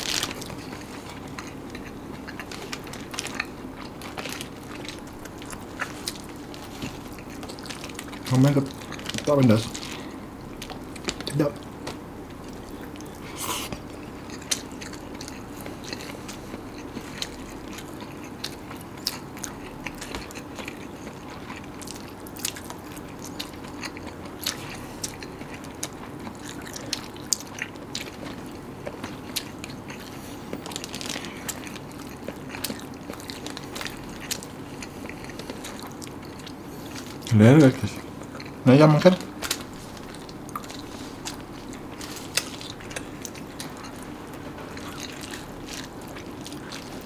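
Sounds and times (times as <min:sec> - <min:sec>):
chewing and biting: 0:00.0 - 0:47.0.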